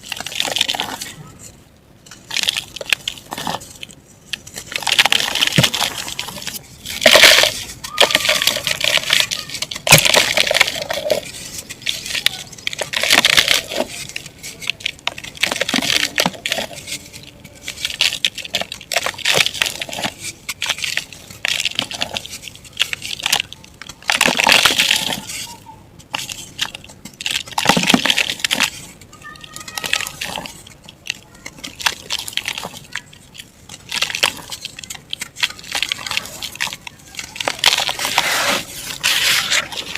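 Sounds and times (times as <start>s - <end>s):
dried mud crumbling by hand: 0.0s - 39.9s.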